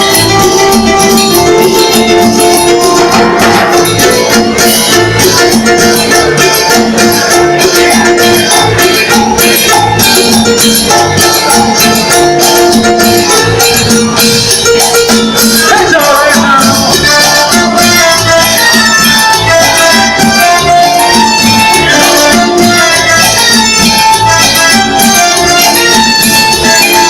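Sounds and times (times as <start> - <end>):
latin dance music on keyboard: 0.0 - 27.0
percussion beat: 0.0 - 27.0.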